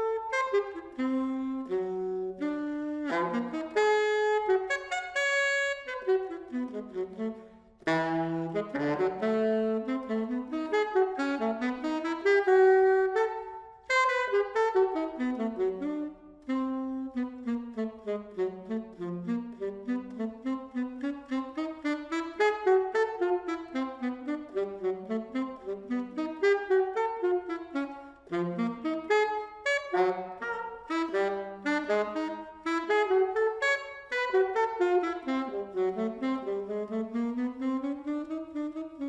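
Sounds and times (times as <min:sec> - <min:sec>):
solo saxophone improvising: 0:00.0 - 0:39.0.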